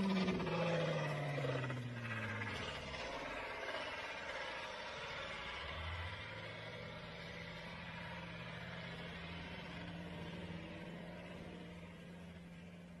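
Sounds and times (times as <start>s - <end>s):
faint vehicle engine hum: 0.0s - 13.0s.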